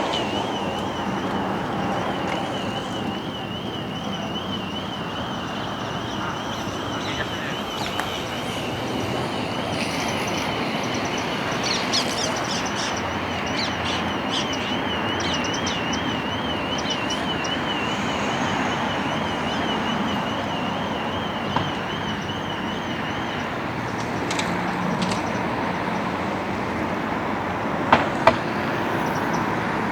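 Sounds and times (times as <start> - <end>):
small birds chirping: 0.0 - 26.1
distant city traffic hum: 0.0 - 29.9.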